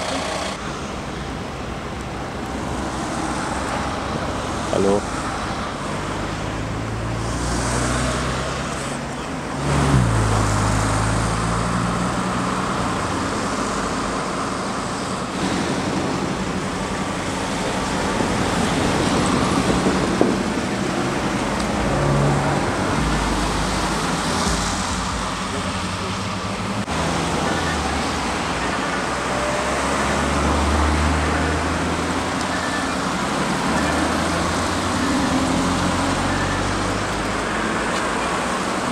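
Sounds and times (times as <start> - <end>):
vehicle engines humming and passing: 0.0 - 38.9
loud vehicle passing: 2.6 - 38.9.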